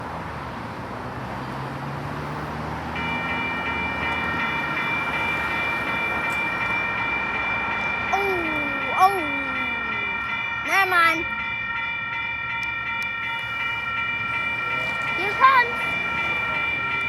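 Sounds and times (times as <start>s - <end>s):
diesel train rumbling: 2.6s - 17.0s
chord of high tones: 3.0s - 17.0s.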